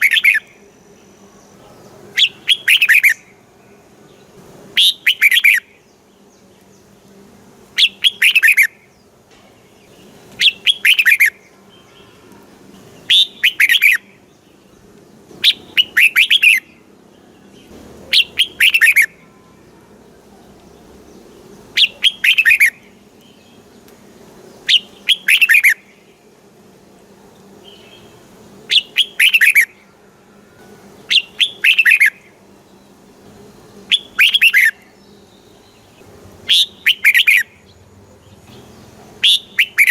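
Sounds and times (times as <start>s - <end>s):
bulbul singing: 0.0s - 30.0s, 30.6s - 39.9s.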